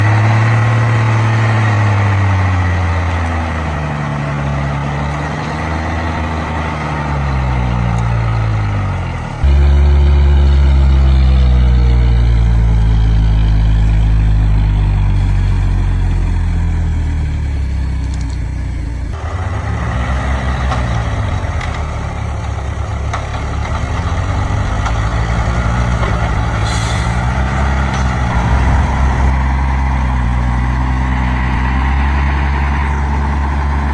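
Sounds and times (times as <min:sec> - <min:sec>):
diesel truck engine revving: 0:00.0 - 0:33.9.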